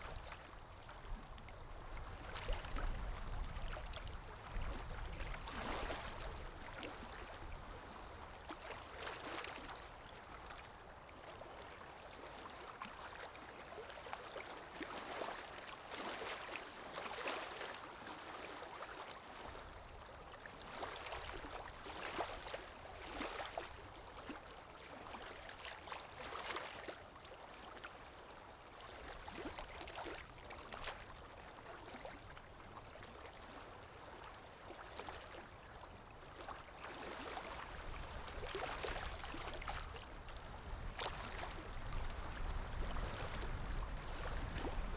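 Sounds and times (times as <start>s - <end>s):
water sloshing and splashing: 1.1s - 10.6s, 11.6s - 27.8s, 28.7s - 44.9s.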